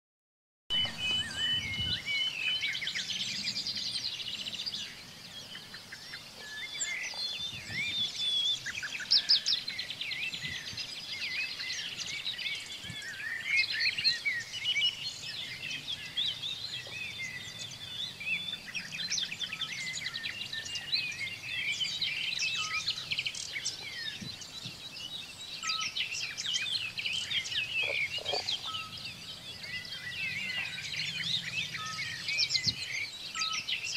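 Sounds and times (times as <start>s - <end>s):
songbirds chirping and trilling: 0.7s - 33.9s
faint outdoor hiss: 0.8s - 33.9s.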